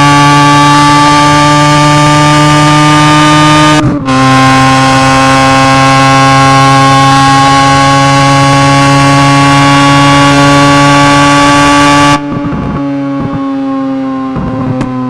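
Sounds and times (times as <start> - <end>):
rotary engine at high revs: 0.0 - 15.0.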